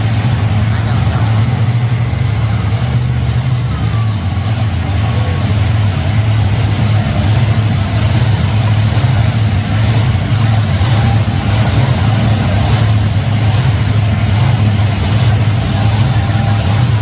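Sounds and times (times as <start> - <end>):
monster truck engines rumbling: 0.0 - 17.0.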